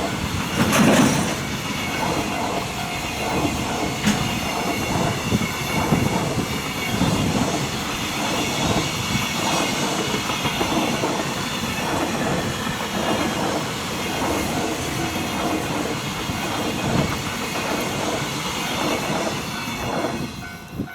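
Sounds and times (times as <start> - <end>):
train wheels clattering over rail joints: 0.0 - 20.5
high squeal from train wheels: 0.0 - 20.9.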